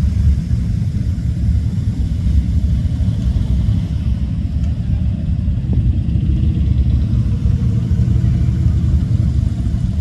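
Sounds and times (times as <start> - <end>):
pickup trucks driving past: 0.0 - 10.0.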